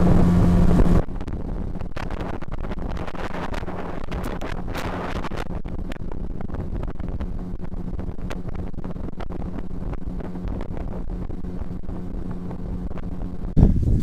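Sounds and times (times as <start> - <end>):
outboard motor running: 0.0 - 13.6
wind noise on microphone: 0.0 - 14.0.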